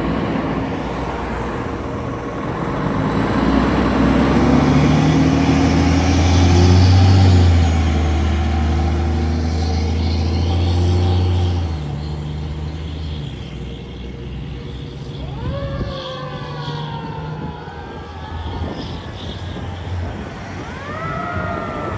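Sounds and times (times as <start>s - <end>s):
fire truck engine running: 0.0s - 21.9s
siren sweeping up and down: 4.1s - 21.9s.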